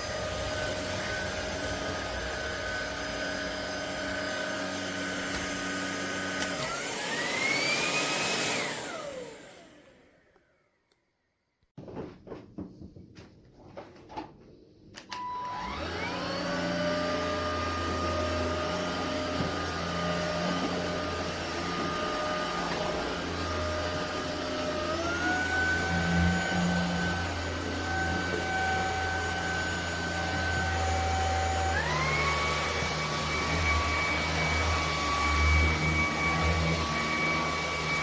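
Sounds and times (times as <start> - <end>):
vacuum cleaner motor whine: 0.0 - 10.6, 15.1 - 38.0.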